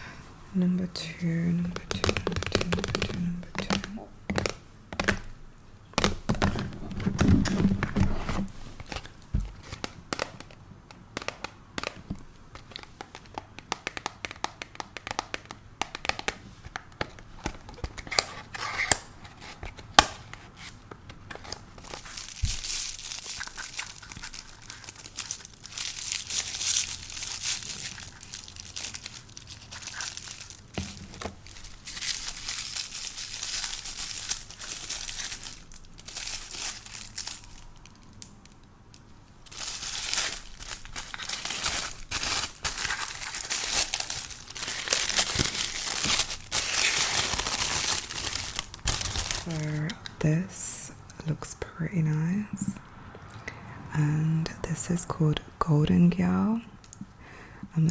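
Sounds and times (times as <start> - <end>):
wrapping crinkling and tearing: 1.3 - 5.3, 6.0 - 10.6, 11.2 - 38.7, 39.4 - 50.0.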